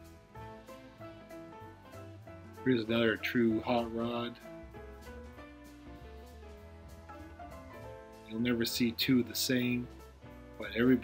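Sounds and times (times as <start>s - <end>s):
background music with sustained notes: 0.0s - 11.0s.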